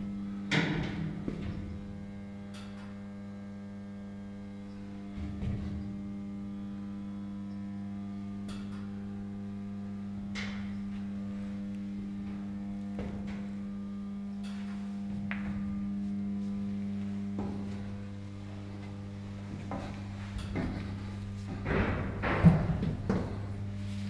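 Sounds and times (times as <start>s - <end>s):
engine-room machinery humming: 0.0s - 24.0s.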